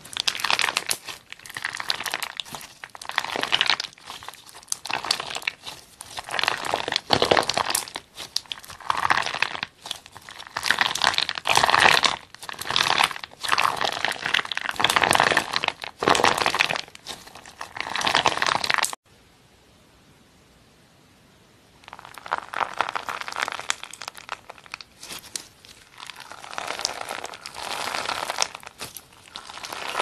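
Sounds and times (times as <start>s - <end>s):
slime squeezed crackling: 0.0s - 19.0s, 21.8s - 30.0s.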